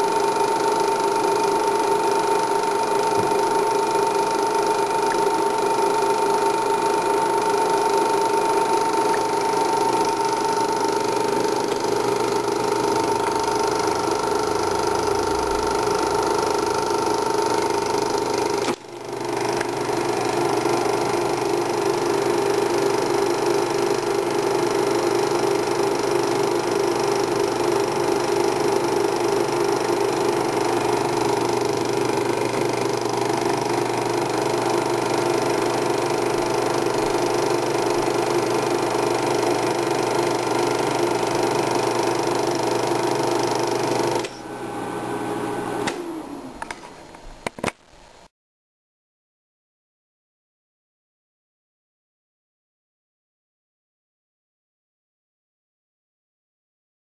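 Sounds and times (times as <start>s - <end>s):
film projector whirring: 0.0s - 47.8s.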